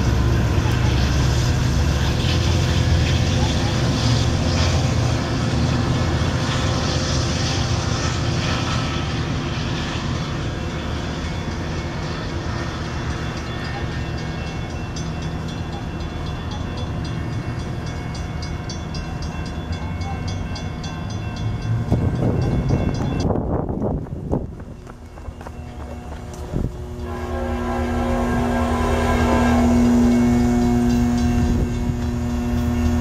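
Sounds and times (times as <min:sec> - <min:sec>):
diesel locomotive engine passing: 0:00.0 - 0:33.0
train wheels rolling on rails: 0:00.0 - 0:33.0.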